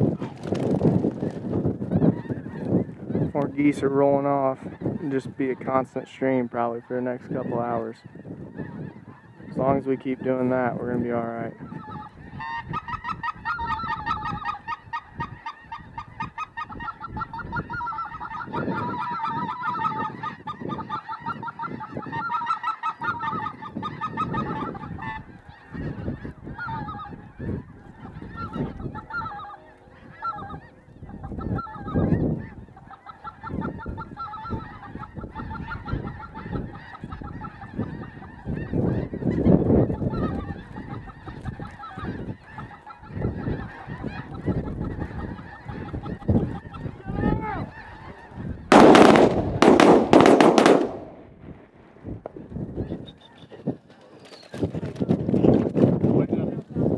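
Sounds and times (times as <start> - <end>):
geese honking: 1.2 - 51.3.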